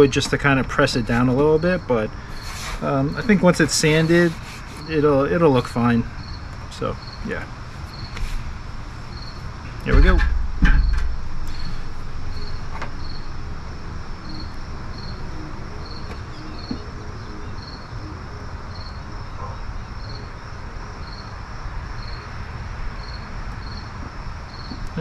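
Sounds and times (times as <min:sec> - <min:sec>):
background hiss: 0:00.0 - 0:25.0
cricket chirping: 0:00.0 - 0:25.0.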